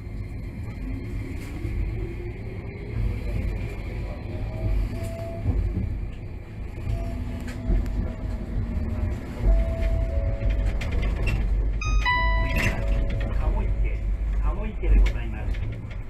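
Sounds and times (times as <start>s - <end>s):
streetcar wheels rumbling on rails: 0.0s - 16.0s.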